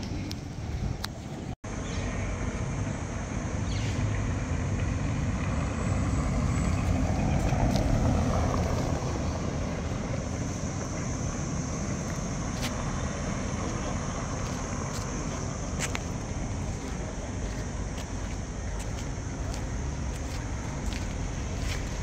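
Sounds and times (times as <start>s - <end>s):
low outdoor background rumble: 0.0s - 22.0s.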